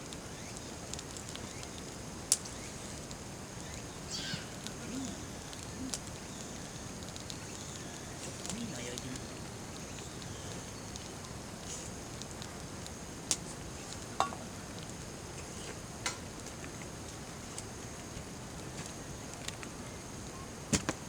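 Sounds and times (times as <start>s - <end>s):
faint high whine: 0.0s - 20.8s
steady hiss: 0.0s - 21.0s.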